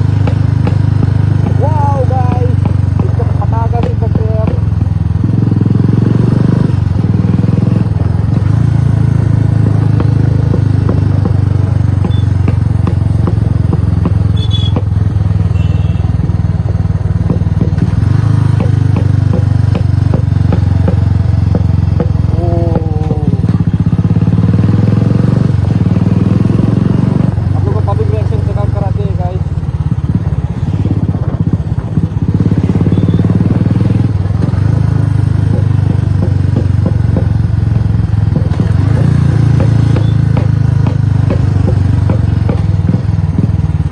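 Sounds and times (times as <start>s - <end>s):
motorcycle engine thumping: 0.0s - 5.8s, 6.7s - 43.9s.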